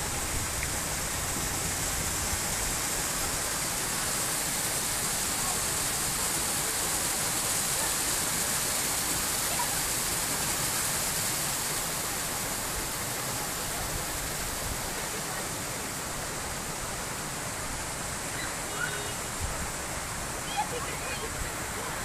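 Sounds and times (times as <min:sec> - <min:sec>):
running splashing water: 0:00.0 - 0:22.0.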